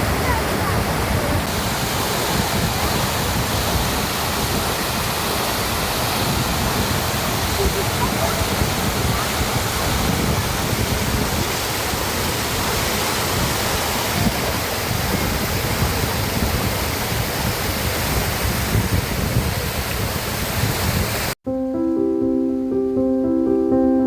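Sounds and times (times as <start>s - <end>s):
water spilling over weir: 0.0s - 21.4s.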